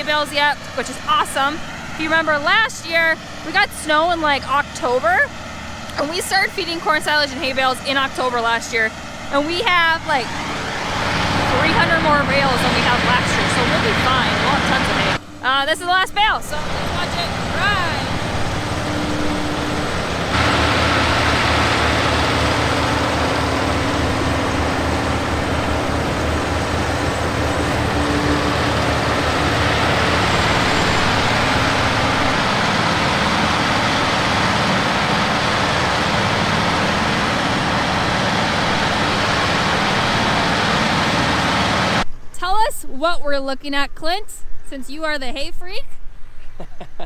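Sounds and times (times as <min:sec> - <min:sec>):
hay grinder grinding: 0:00.0 - 0:15.4, 0:16.2 - 0:42.0
tractor engine running: 0:00.0 - 0:42.6.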